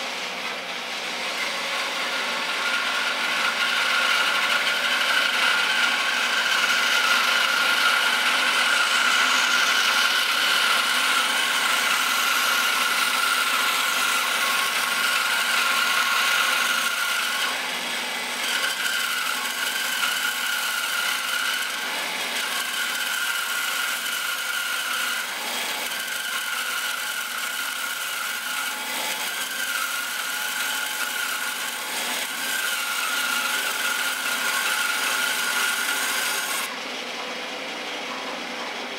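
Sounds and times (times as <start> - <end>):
bandsaw cutting wood: 0.0 - 38.9.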